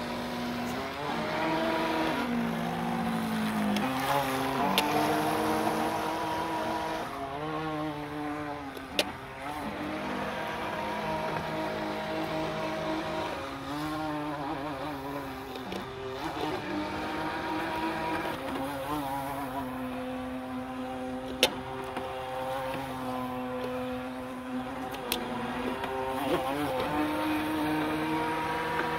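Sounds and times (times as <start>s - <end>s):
model boat motor whining: 0.0s - 28.9s.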